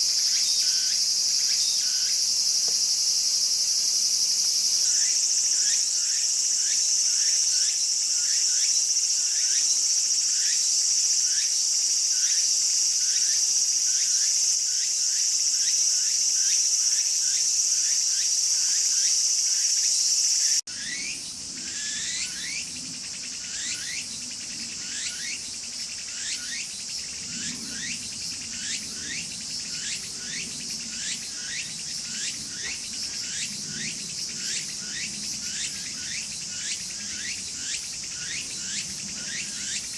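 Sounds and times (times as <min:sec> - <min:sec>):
cicada calling phrases: 0:00.0 - 0:39.9.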